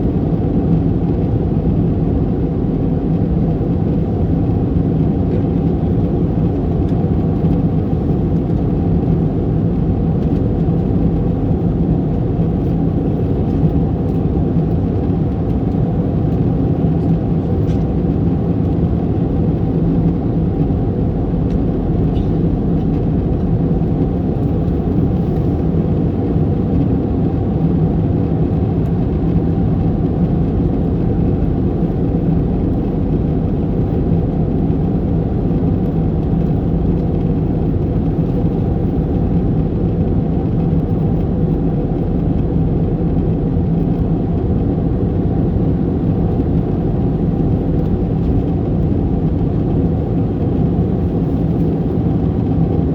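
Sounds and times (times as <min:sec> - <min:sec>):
airliner cabin engine rumble: 0:00.0 - 0:52.9.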